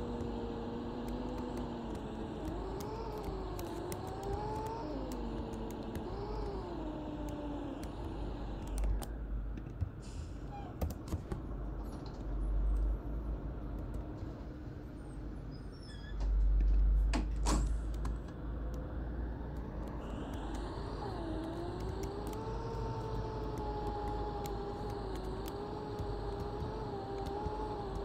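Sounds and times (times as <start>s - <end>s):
bus engine whine and rumble: 0.0s - 28.0s.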